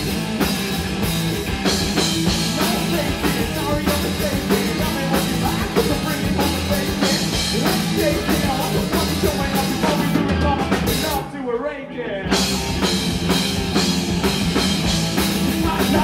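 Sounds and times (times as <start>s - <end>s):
live rock band playing: 0.0s - 11.4s, 12.2s - 16.0s.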